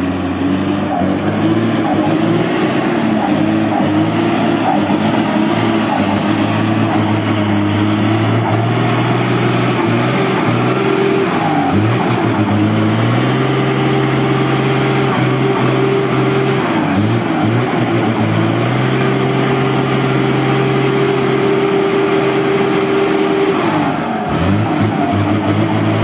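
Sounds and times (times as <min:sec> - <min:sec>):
truck diesel engine climbing uphill: 0:00.0 - 0:26.0.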